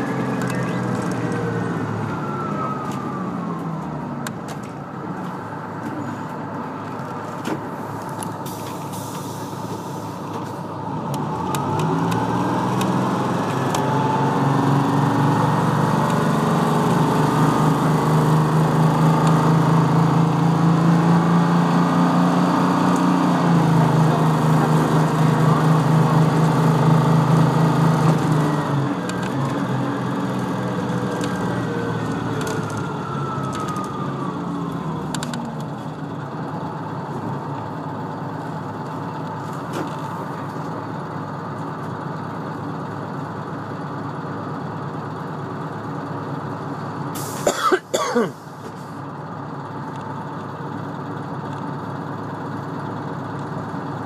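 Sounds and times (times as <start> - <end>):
bus diesel engine and whine: 0.0 - 54.0.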